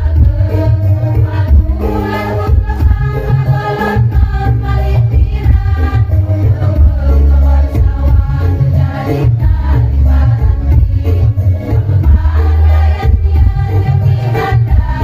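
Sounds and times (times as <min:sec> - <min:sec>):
electronic keyboard bass notes: 0:00.0 - 0:15.0
women's choir singing: 0:00.0 - 0:15.0.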